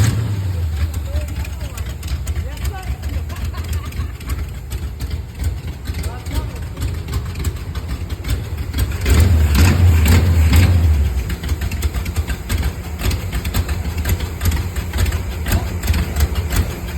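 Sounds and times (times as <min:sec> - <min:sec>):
engine running choppy: 0:00.0 - 0:16.9
sharp engine ticks: 0:00.0 - 0:16.9.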